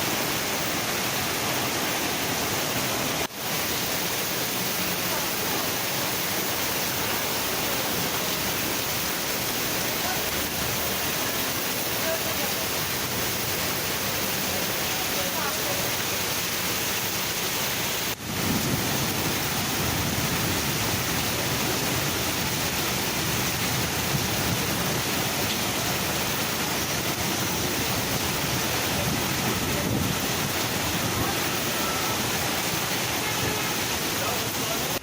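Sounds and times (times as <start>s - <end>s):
heavy rain with wind: 0.0s - 35.0s.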